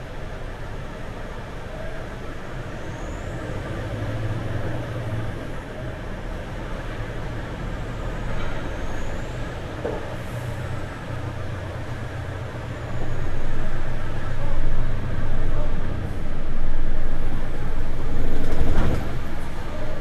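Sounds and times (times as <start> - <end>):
heavy diesel engines droning: 0.0 - 20.0.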